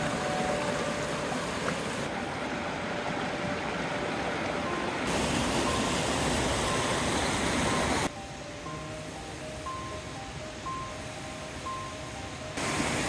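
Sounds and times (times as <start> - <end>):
water rushing over rocks: 0.0 - 8.1, 9.0 - 13.0.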